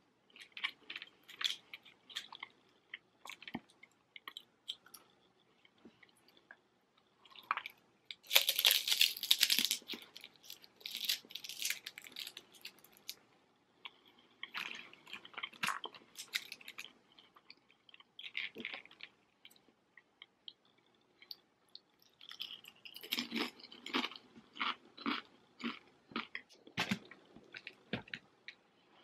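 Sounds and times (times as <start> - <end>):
chewing and crunching: 0.3 - 13.2, 13.8 - 28.6.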